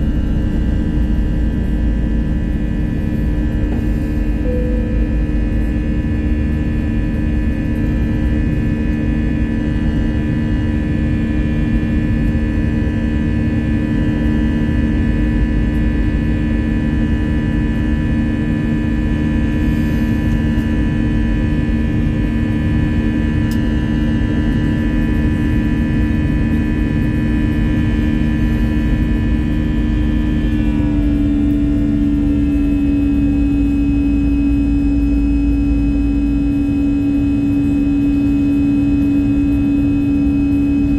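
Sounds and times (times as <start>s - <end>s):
jet engine cabin hum and whine: 0.0s - 40.9s.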